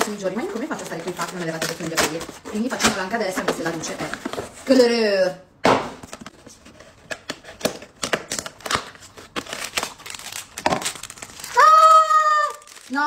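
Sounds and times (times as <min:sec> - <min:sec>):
cardboard and paper crinkling: 0:00.0 - 0:04.8, 0:06.2 - 0:13.0.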